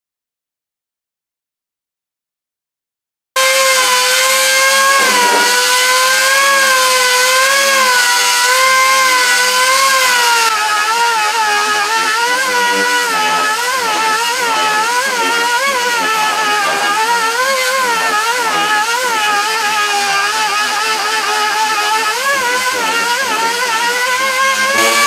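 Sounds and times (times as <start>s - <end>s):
air sander whining: 3.4s - 25.0s.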